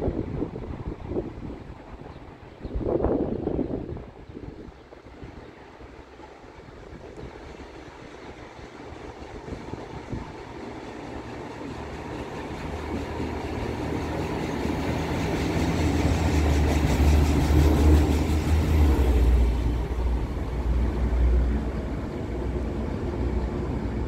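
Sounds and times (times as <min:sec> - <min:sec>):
diesel train engine drone: 0:00.0 - 0:24.0
train wheels on rails: 0:04.5 - 0:24.0.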